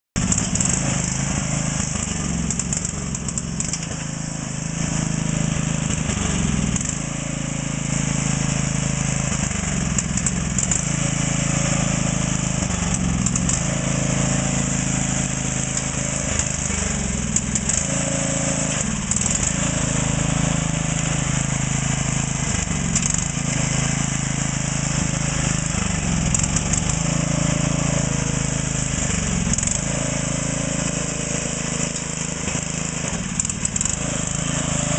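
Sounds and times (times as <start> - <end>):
lawn tractor engine running hard: 0.2 - 34.9.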